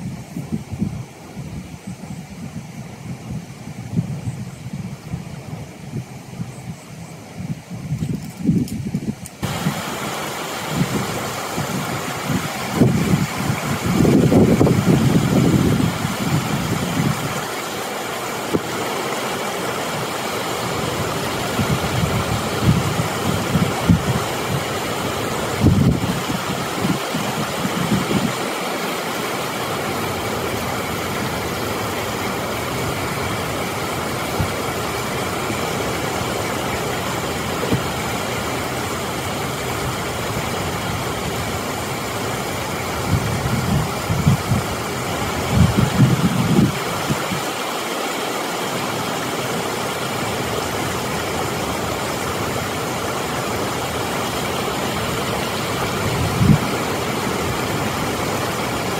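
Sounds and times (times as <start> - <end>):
water rushing over dam spillway: 0.0 - 58.9.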